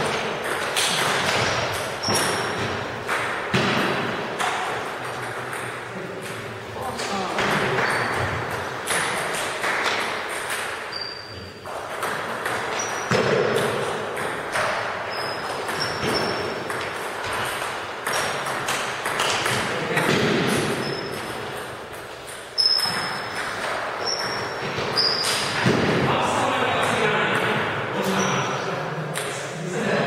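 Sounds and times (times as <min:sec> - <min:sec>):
table tennis balls clicking: 0:00.0 - 0:03.7, 0:04.3 - 0:25.8.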